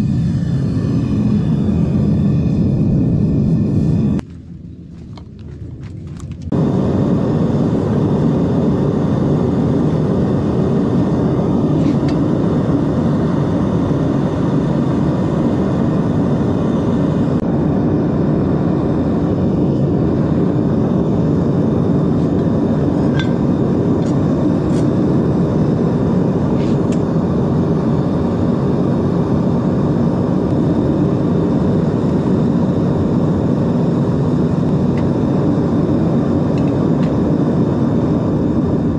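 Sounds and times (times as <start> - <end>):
propane burner roaring: 0.0 - 38.9.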